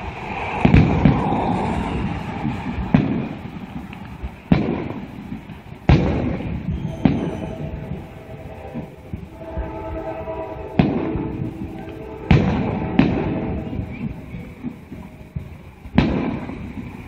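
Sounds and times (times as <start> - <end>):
fireworks bursting with bangs: 0.0 - 17.0
low rumbling echo: 0.0 - 17.0.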